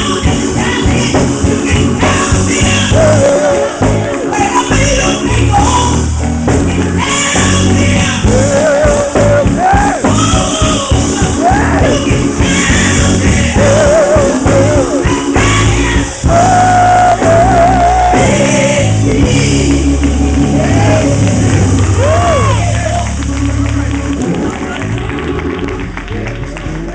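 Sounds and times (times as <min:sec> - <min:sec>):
band with bass and drums: 0:00.0 - 0:26.9
person singing with vibrato: 0:00.0 - 0:26.9.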